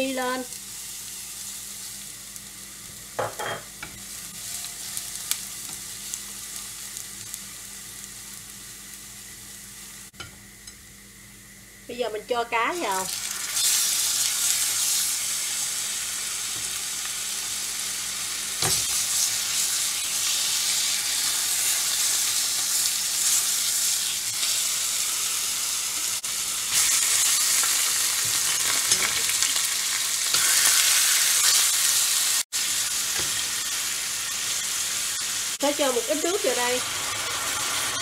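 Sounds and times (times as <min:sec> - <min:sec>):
fish sizzling in hot oil: 0:00.0 - 0:10.1, 0:12.8 - 0:38.0.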